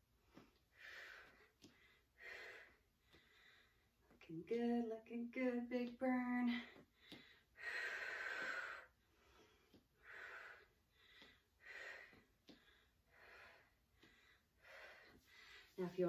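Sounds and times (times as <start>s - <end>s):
woman breathing: 0.0s - 4.2s, 6.5s - 15.8s.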